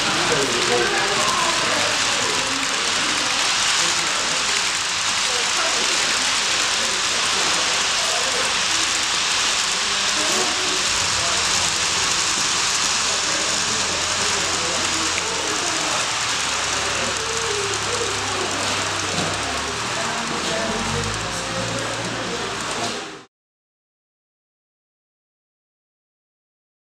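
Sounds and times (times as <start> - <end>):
steady hiss: 0.0 - 23.1
faint background voices: 0.0 - 23.3.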